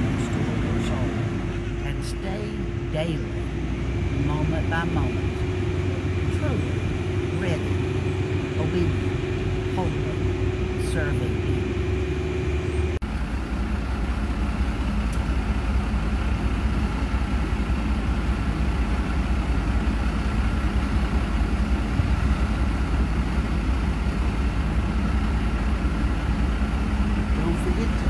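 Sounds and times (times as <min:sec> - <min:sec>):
low diesel engine drone: 0:00.0 - 0:28.0.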